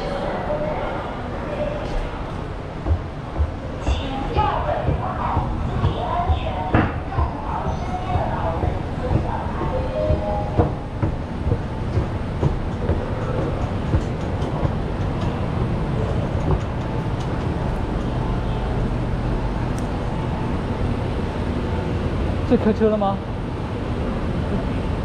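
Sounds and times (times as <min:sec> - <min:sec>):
metro train rumbling on track: 0:00.0 - 0:25.0.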